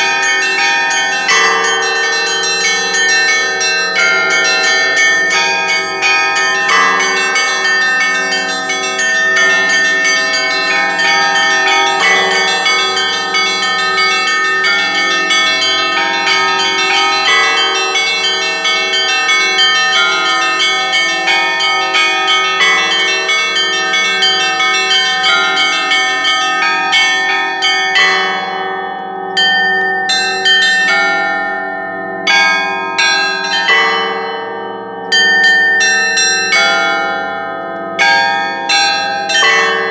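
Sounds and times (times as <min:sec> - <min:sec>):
big bell tolling: 0:00.0 - 0:39.9
humming middle bells: 0:00.0 - 0:39.9.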